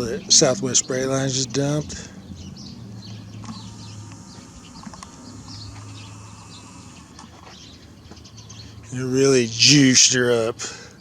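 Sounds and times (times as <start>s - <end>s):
low steady hum: 0.0s - 11.0s
small birds chirping: 0.0s - 11.0s.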